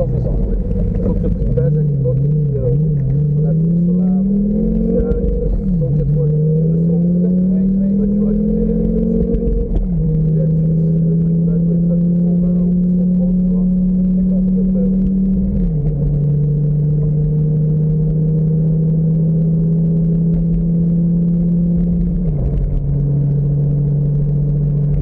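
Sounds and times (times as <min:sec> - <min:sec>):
sports car engine running: 0:00.0 - 0:25.0.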